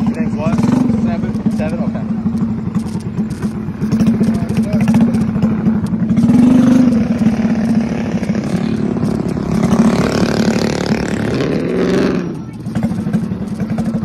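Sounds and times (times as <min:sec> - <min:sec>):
small engine running and revving: 0:00.0 - 0:14.0.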